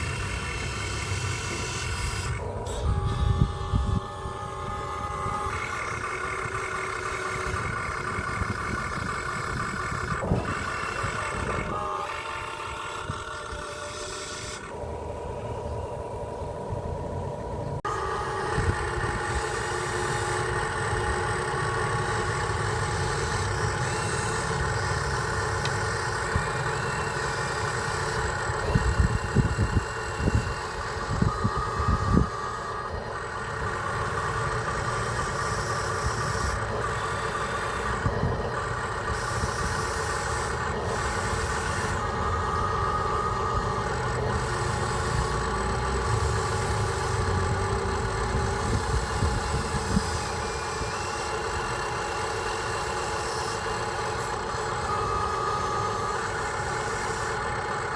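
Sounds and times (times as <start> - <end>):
remote-control truck droning: 0.0 - 57.9.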